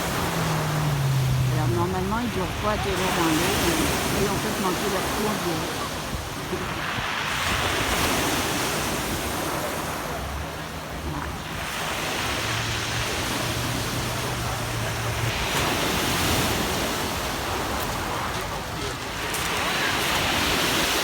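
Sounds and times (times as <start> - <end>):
surf washing onto beach: 0.0 - 21.0.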